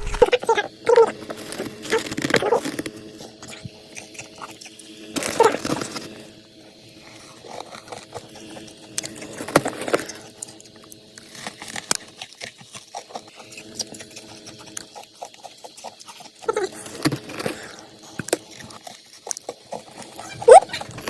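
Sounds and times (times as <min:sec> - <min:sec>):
ice being chewed: 0:01.2 - 0:06.2, 0:06.9 - 0:21.0.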